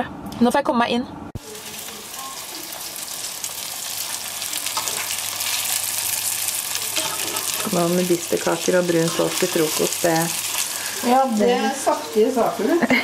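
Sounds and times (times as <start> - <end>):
meat patties sizzling in a pan: 1.4 - 13.0.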